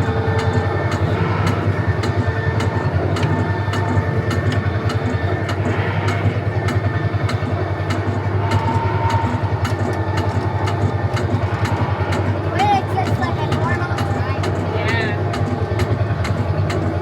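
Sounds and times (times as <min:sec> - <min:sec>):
low engine drone: 0:00.0 - 0:17.0
regular clicks: 0:00.0 - 0:17.0.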